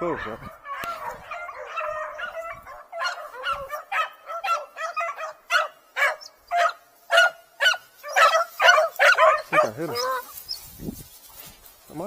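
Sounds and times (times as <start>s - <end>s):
beagles baying: 0.0s - 10.7s.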